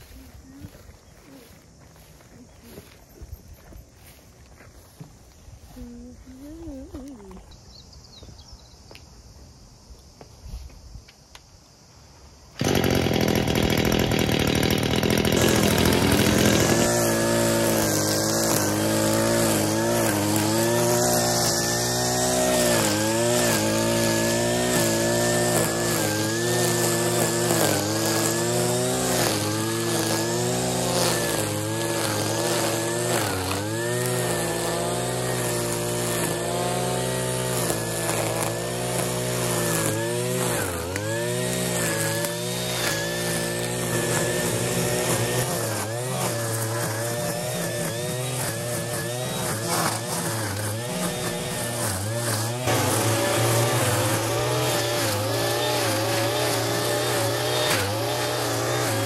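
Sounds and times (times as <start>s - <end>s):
brush cutter engine running: 0.0s - 3.0s, 12.6s - 59.0s
trimmer cord cutting grass: 0.0s - 7.4s, 12.6s - 59.0s.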